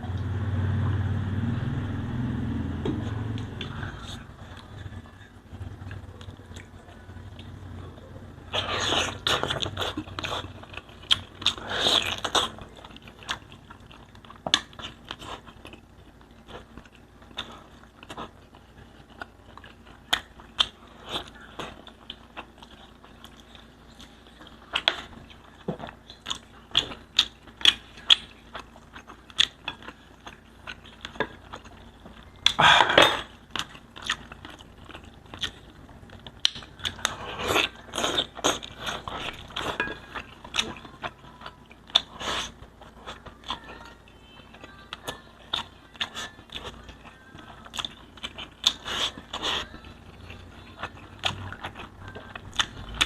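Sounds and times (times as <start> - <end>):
biting and chewing: 8.5 - 43.9, 44.6 - 53.0.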